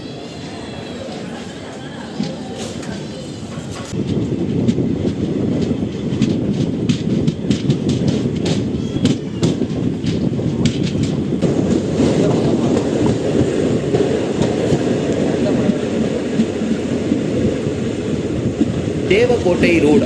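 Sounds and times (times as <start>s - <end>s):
train rumbling: 0.0s - 20.0s
train wheels clicking over rail joints: 2.2s - 19.6s.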